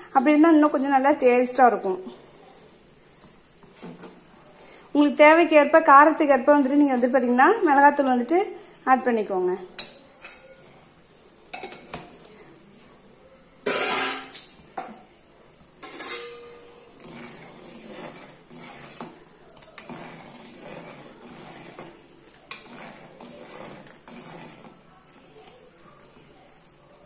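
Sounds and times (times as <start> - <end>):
spoon stirring boiling gravy: 0.1 - 4.9, 9.6 - 27.0.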